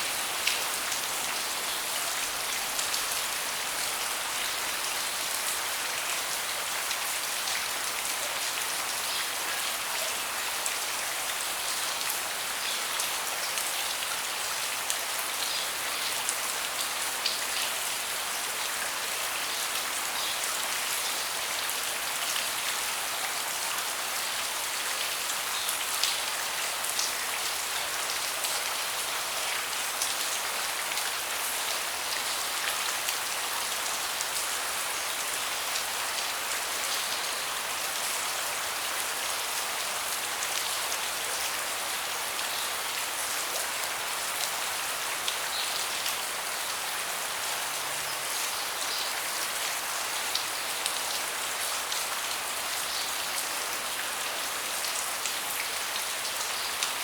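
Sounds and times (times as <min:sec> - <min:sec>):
steady rain with ticking drops: 0:00.0 - 0:57.0.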